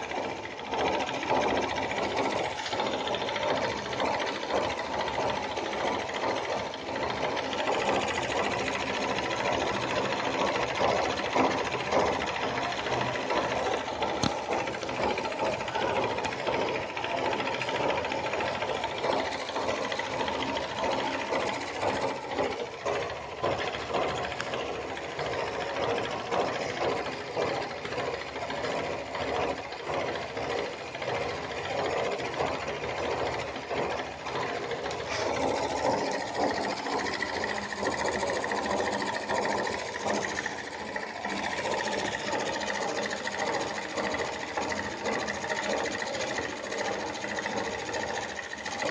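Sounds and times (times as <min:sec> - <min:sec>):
model steam engine running: 0:00.0 - 0:48.9
thin steady whine: 0:00.0 - 0:48.9.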